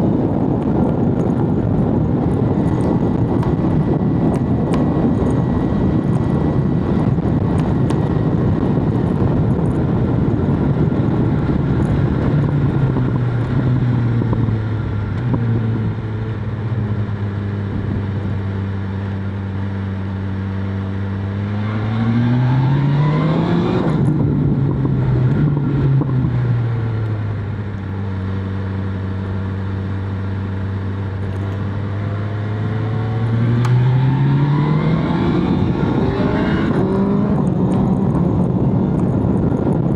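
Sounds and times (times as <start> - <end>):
motorcycle engine revving: 0.0 - 39.9
wind roar: 0.0 - 39.9.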